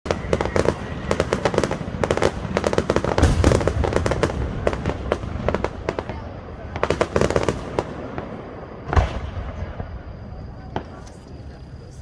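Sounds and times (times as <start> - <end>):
fireworks crackling pops: 0.1 - 10.0, 10.6 - 11.6
fireworks deep boom: 0.1 - 11.1.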